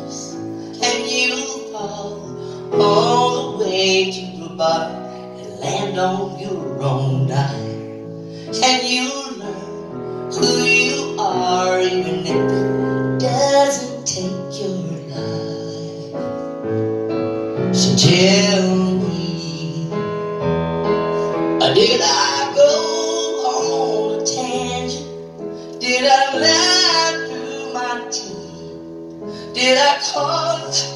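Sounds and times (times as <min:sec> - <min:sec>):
piano accompaniment: 0:00.0 - 0:30.9.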